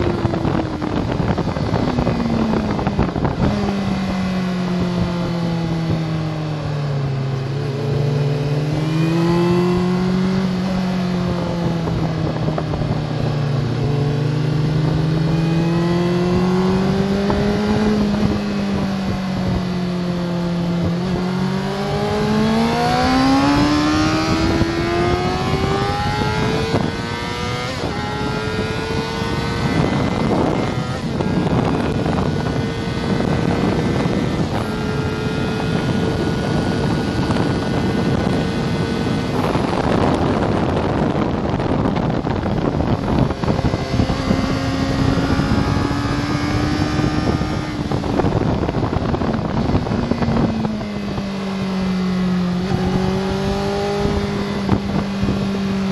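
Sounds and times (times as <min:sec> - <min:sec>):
motorcycle engine revving: 0:00.0 - 0:55.9
wind rushing: 0:00.0 - 0:55.9.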